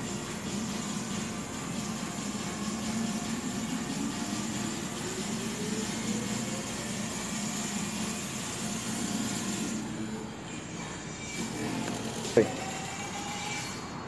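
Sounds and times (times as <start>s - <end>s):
low mechanical hum with hiss: 0.0s - 14.0s.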